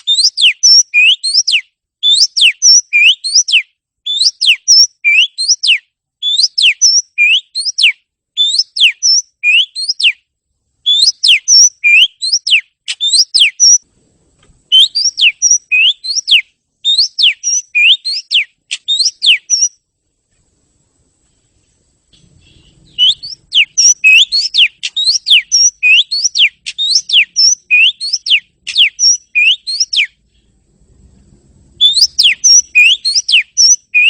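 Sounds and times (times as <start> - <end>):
bird singing whistled phrases: 0.0 - 10.2, 10.8 - 13.8, 14.7 - 19.8, 22.3 - 30.2, 31.8 - 34.0.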